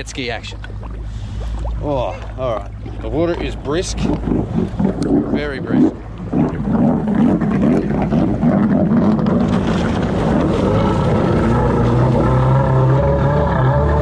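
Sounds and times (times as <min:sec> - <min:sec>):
jet ski engine running: 0:01.8 - 0:14.0.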